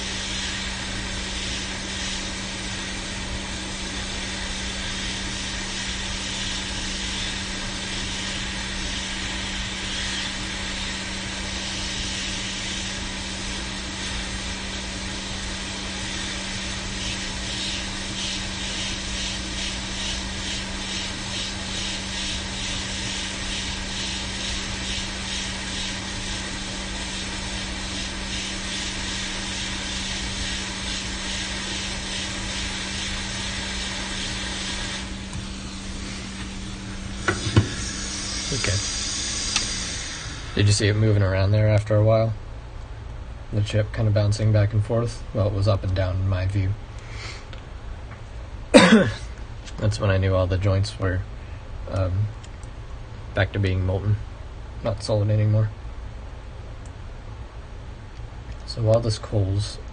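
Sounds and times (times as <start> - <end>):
hot-air station fan hum: 0.0 - 59.9.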